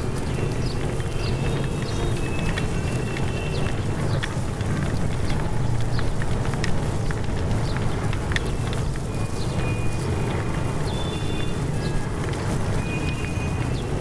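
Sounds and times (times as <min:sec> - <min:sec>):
suitcase rolling over paving stones: 0:00.0 - 0:14.0.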